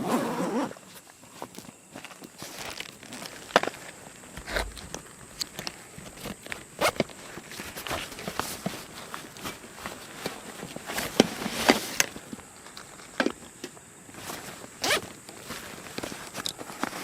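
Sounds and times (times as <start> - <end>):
rustling and scuffing: 0.5 - 17.0.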